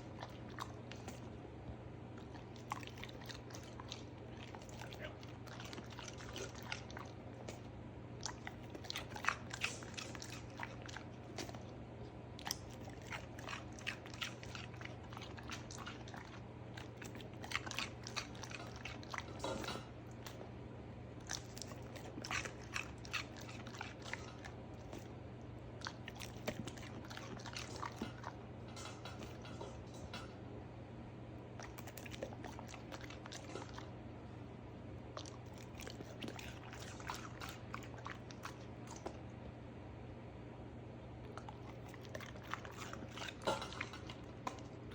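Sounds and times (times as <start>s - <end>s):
pet crunching vegetables: 0.0s - 20.6s, 21.2s - 30.4s, 31.5s - 39.3s, 41.2s - 44.9s.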